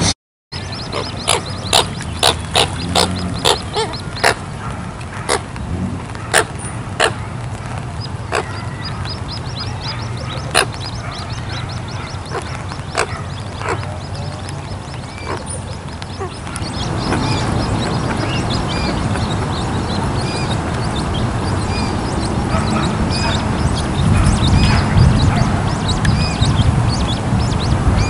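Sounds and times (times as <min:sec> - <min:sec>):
coots calling: 0:00.6 - 0:05.5, 0:06.2 - 0:07.4, 0:08.0 - 0:26.1.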